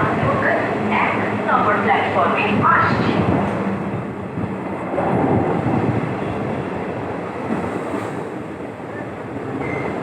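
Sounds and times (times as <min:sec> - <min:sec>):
passenger train running: 0:00.0 - 0:10.0.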